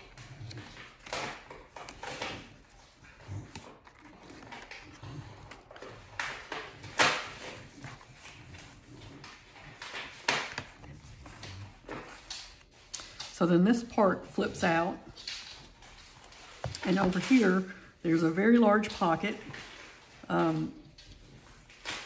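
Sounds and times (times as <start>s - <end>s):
paper rustling: 0.0s - 14.0s, 15.1s - 22.0s.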